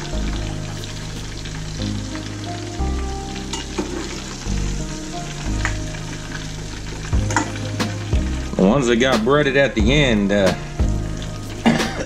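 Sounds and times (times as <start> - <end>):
background music with bass: 0.0 - 12.0
fish deep-frying in oil: 0.0 - 12.0.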